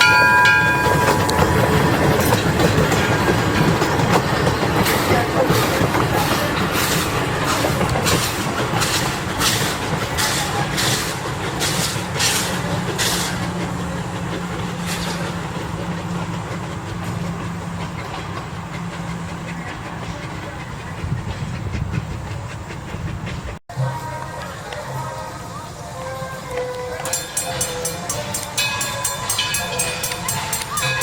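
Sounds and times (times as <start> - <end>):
steam locomotive hissing beats: 0.0 - 31.0
train running on track: 0.0 - 31.0.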